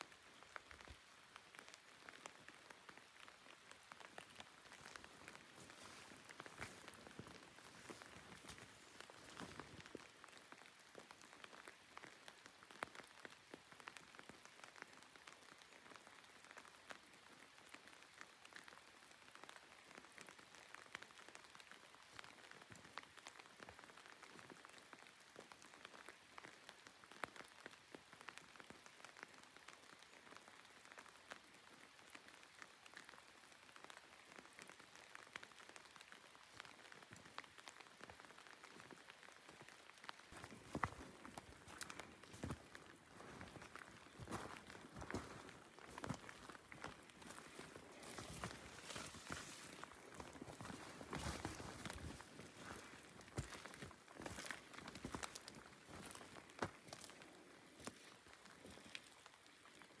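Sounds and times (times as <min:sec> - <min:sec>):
light rain patter: 0:00.0 - 1:00.0.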